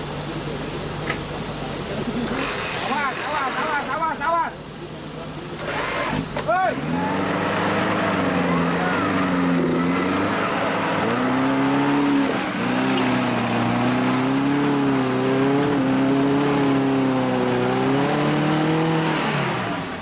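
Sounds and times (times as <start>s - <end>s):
engine revving hard: 2.3s - 4.0s, 5.6s - 20.0s.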